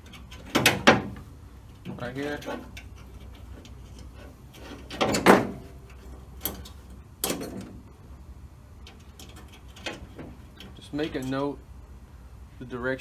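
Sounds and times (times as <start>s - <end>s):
metal clanks and rattles in car door: 0.0s - 7.9s, 8.8s - 11.4s.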